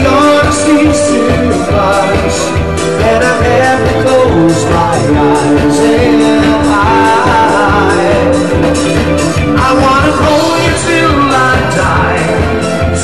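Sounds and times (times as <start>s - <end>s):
man singing into a microphone: 0.0s - 13.0s
pop backing music with beat: 0.0s - 13.0s.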